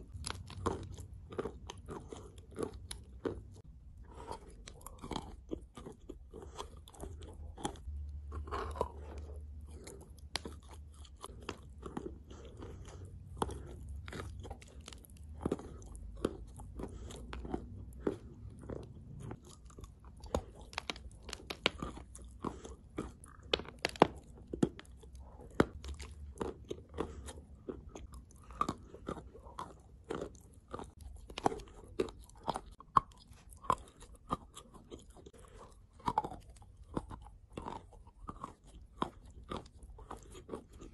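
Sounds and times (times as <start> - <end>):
chalk crunching in the mouth: 0.0 - 40.9.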